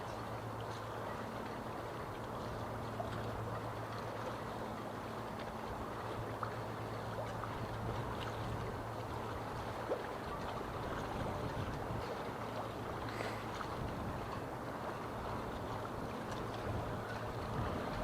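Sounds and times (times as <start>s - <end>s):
waves lapping against quay: 0.0s - 18.0s.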